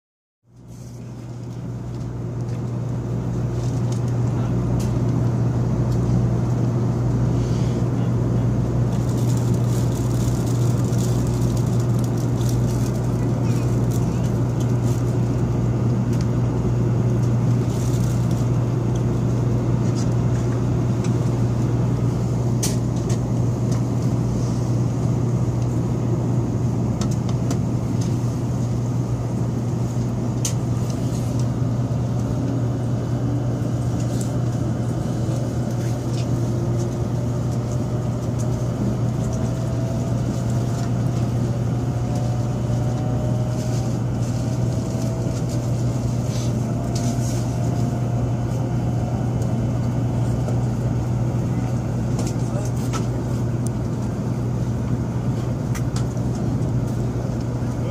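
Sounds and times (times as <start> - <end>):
train cabin hum and rumble: 0.5 - 57.9
electric traction whine: 1.2 - 57.9.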